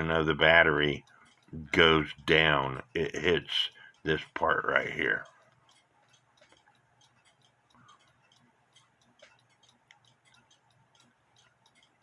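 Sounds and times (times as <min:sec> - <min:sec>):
mechanical clock ticking: 0:00.0 - 0:12.0.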